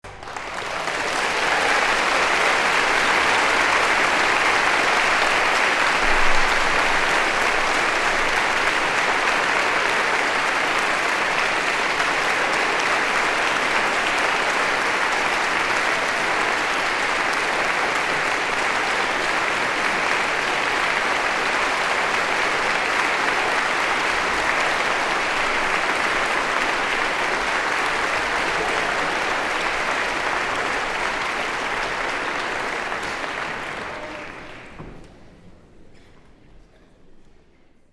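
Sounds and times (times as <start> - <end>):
loud clap or shout: 0.0 - 35.1
audience applauding: 0.0 - 35.2.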